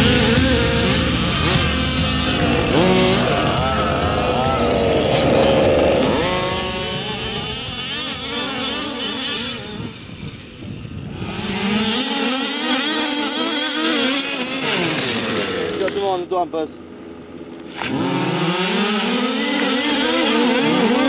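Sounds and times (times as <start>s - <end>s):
rc car engines revving: 0.0s - 21.0s.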